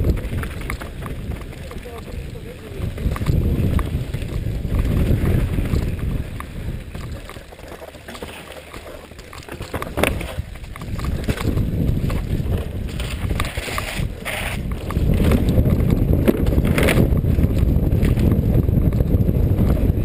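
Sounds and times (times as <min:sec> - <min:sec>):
bike rattles and knocks: 0:00.0 - 0:20.0
bike tyre rumble: 0:00.0 - 0:20.0
wind: 0:00.0 - 0:20.0.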